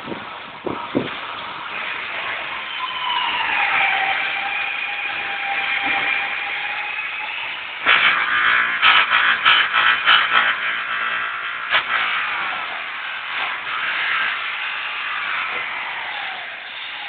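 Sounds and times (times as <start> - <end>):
loud rough pulsing noise: 0.0 - 17.0
machine whining: 0.0 - 17.0.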